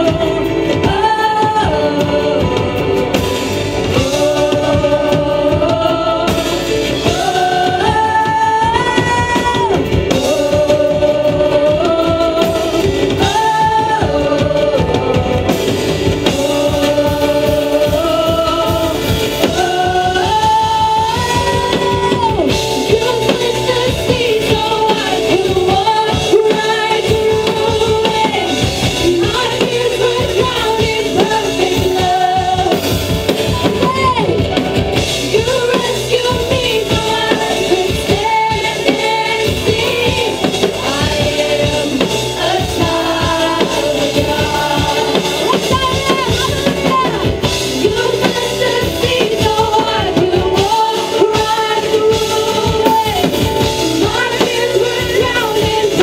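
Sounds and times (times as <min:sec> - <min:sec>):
live band with guitar and keyboard: 0:00.0 - 0:56.0
women singing worship song: 0:00.0 - 0:56.0.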